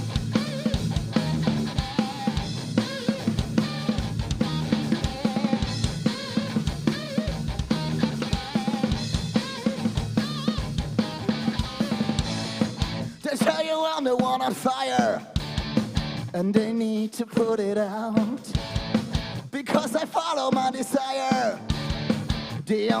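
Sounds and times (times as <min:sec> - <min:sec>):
drum kit beat: 0:00.0 - 0:23.0
rock band playing: 0:00.0 - 0:23.0.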